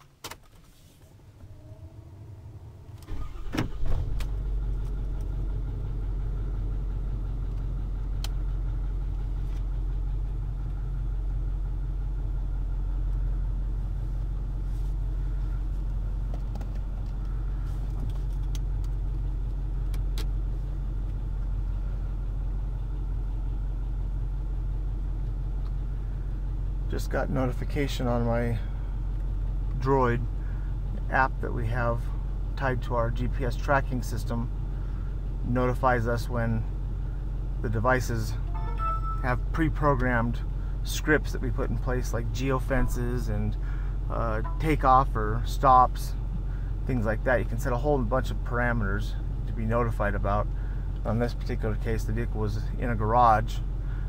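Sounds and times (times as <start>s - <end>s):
truck engine starting and running: 1.3s - 54.0s.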